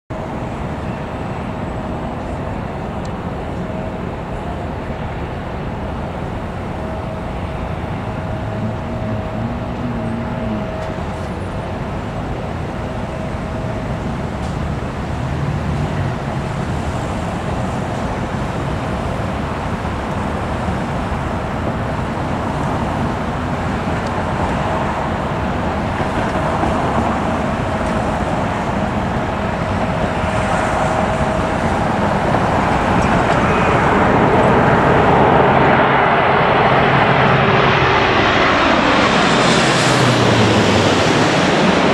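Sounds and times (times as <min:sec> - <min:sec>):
jet engine whine: 0:00.1 - 0:41.9
jet airliner passing overhead: 0:00.2 - 0:41.9.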